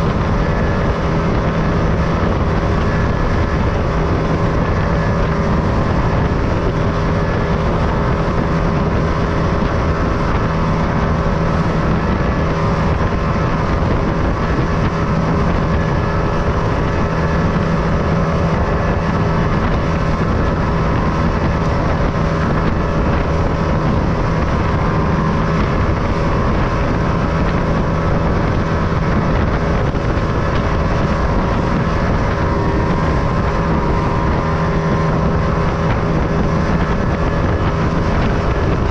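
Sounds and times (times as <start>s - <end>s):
boat engine humming: 0.0s - 38.9s
water splashing along hull: 0.0s - 38.9s.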